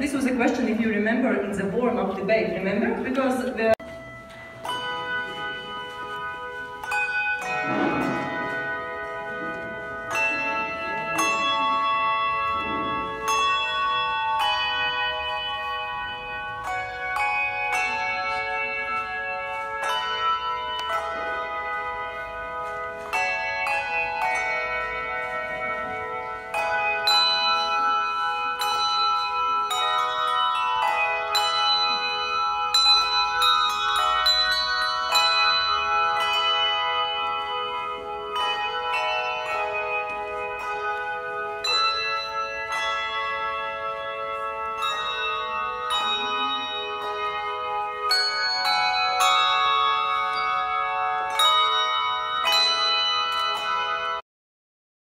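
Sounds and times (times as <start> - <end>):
handbells ringing a tune: 0.0 - 54.2.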